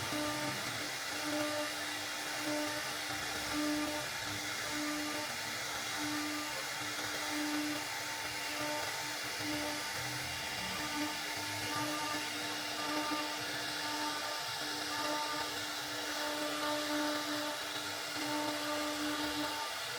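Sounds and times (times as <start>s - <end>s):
machine-like hiss: 0.0s - 19.9s.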